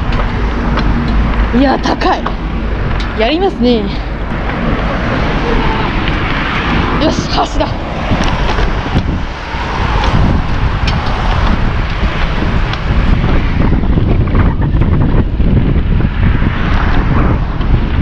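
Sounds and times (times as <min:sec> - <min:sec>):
road traffic passing: 0:00.0 - 0:18.0
wind buffeting microphone: 0:00.0 - 0:18.0.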